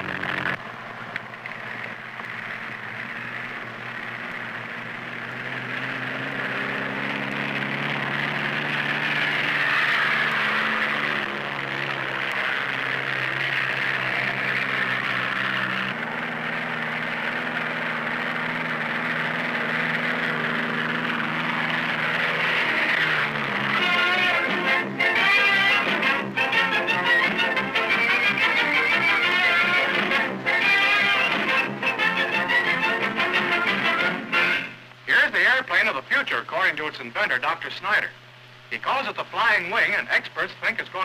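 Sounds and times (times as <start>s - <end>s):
old film soundtrack hiss: 0.0s - 41.0s
propeller engine droning: 0.0s - 41.0s.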